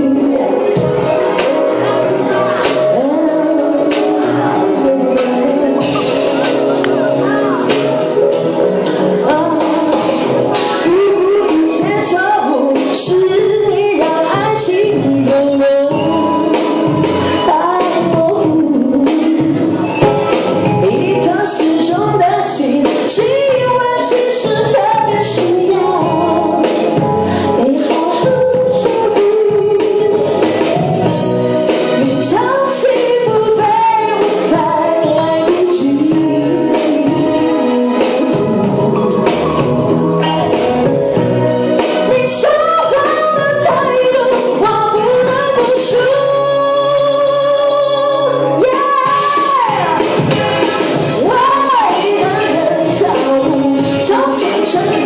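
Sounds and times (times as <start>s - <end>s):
musical accompaniment: 0.0s - 55.0s
woman singing pop melody: 0.0s - 55.0s.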